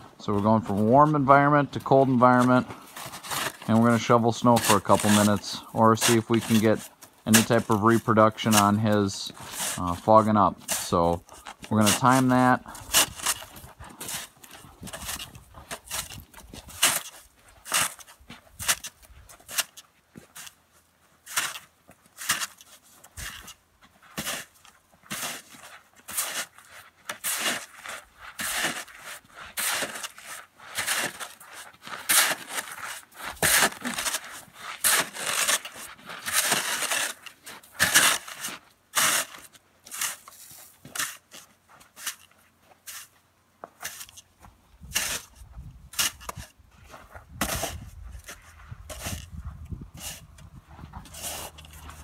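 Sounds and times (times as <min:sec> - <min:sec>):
snow shovel scraping: 0:00.4 - 0:20.6, 0:21.2 - 0:43.1, 0:43.8 - 0:44.2, 0:44.9 - 0:46.6, 0:47.4 - 0:52.0.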